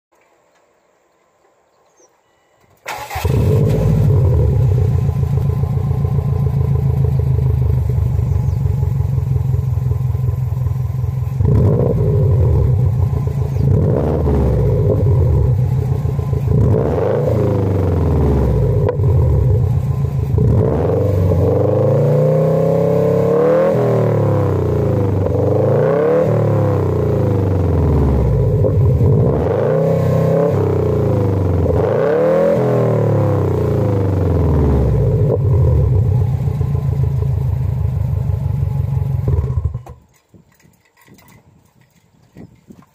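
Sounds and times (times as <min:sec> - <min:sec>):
car engine starting and idling: 0:02.7 - 0:40.1
engine revving: 0:02.9 - 0:40.0.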